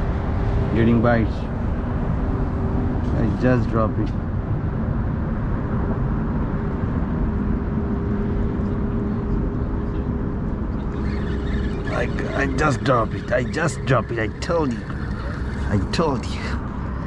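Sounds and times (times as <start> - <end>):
constant hum: 0.0 - 17.0
road traffic noise: 0.0 - 17.0.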